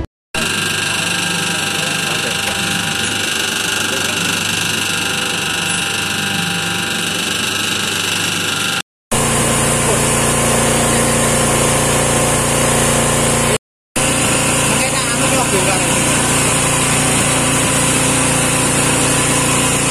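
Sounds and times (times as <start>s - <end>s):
dough mixer hum: 0.0s - 19.9s
high-pitched whine: 0.0s - 19.9s.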